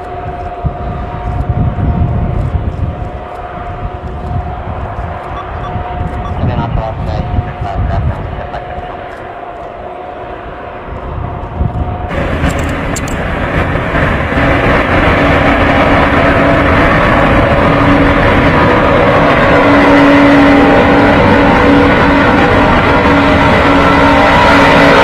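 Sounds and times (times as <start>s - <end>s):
jet engines at high power: 0.0s - 25.0s.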